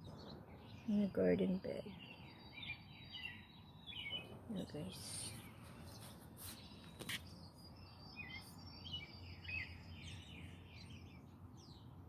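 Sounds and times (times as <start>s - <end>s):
outdoor background noise: 0.0s - 12.0s
small birds chirping: 0.0s - 12.0s.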